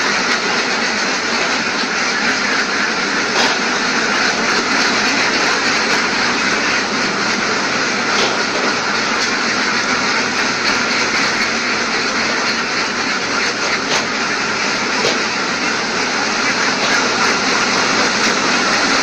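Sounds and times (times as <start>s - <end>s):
egg collector machinery running: 0.0s - 19.0s.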